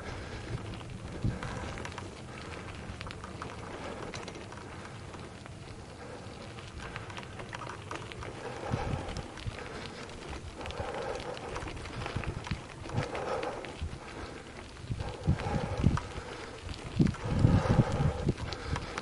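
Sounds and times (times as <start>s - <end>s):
bicycle tyres rolling on gravel: 0.0s - 19.0s.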